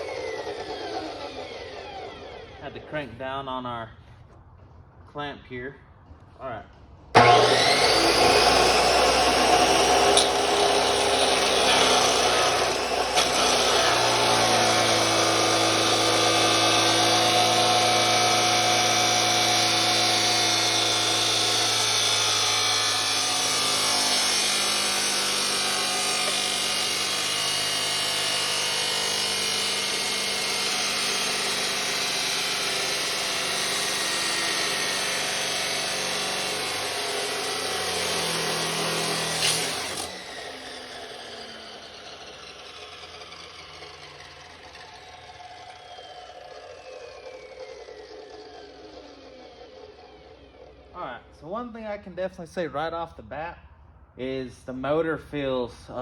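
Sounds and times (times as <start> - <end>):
chop saw motor whine: 0.0 - 3.0, 7.1 - 51.3
saw grinding through metal: 0.0 - 3.4, 7.2 - 51.3.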